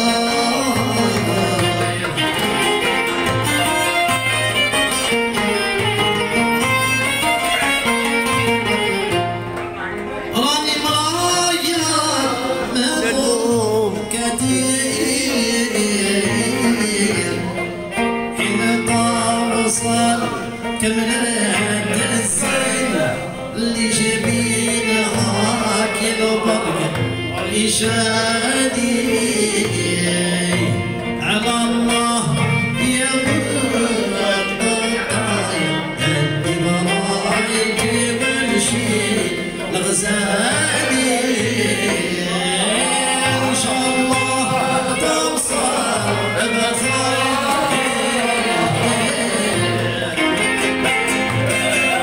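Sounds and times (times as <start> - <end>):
popular music melody: 0.0 - 52.0.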